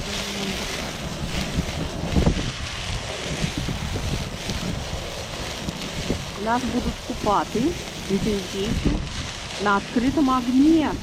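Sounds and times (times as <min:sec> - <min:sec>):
fat hissing on flames: 0:00.0 - 0:11.0
wind buffeting microphone: 0:00.0 - 0:11.0.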